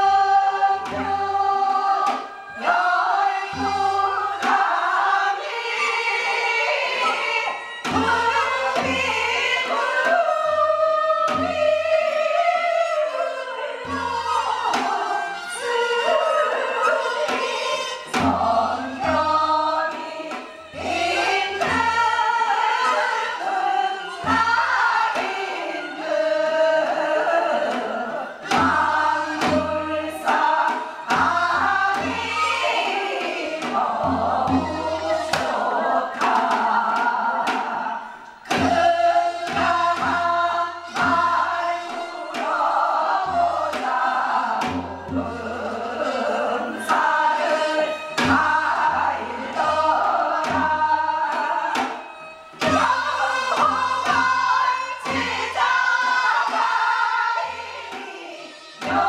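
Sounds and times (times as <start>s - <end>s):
drum strokes: 0.0s - 13.1s, 13.8s - 59.0s
chorus singing folk song: 0.0s - 59.0s.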